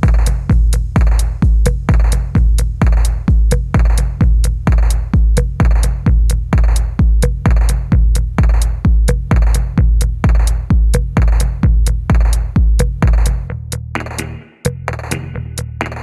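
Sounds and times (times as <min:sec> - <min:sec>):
electronic music with drum beat: 0:00.0 - 0:16.0.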